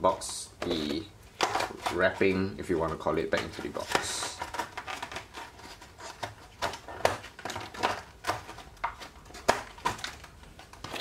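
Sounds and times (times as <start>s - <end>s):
packing wrapping taps and rustles: 0.6s - 11.0s.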